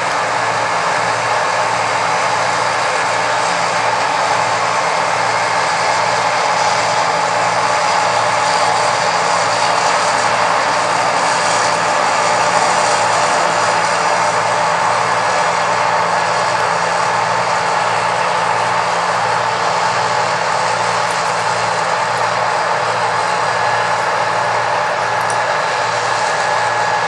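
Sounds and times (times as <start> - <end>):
combine harvester engine drone: 0.0 - 27.0
steady machine whine: 0.0 - 27.0.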